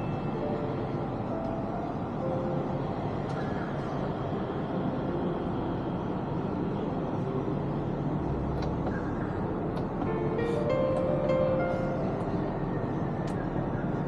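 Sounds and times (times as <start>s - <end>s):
transit train rumble and hum: 0.0s - 14.0s.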